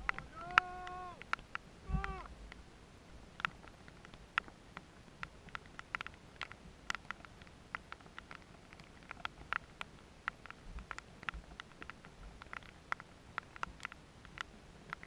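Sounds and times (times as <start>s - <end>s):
faint low rumble: 0.0s - 15.0s
rain pattering: 0.0s - 15.0s.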